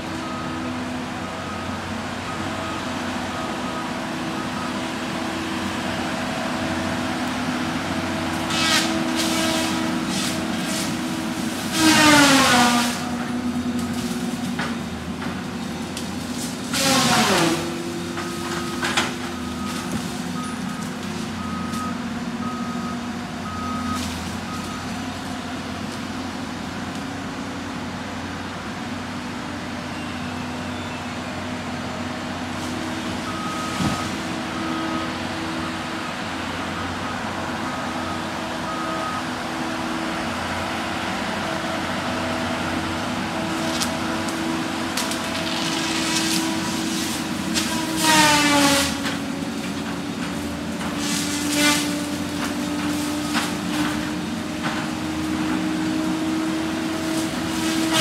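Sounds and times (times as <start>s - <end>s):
heavy machine engine running: 0.0s - 58.0s.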